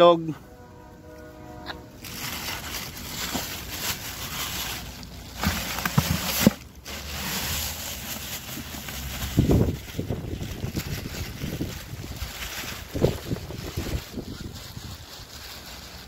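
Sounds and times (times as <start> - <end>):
plastic bag rustling: 1.9 - 16.0.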